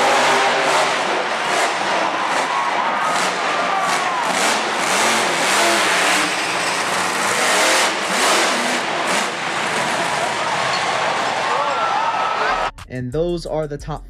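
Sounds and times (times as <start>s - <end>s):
truck engine revving: 0.0s - 11.8s
arena crowd roar: 0.0s - 12.7s.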